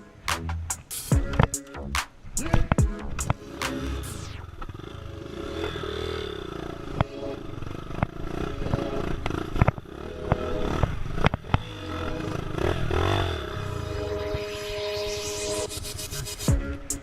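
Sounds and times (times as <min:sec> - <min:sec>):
motorbike engine revving: 0:02.4 - 0:17.0.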